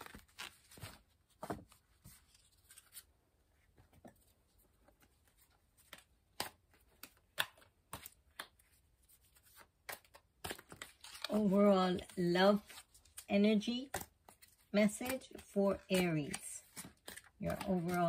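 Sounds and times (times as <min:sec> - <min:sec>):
cards being shuffled: 0:00.0 - 0:03.1, 0:04.9 - 0:18.0.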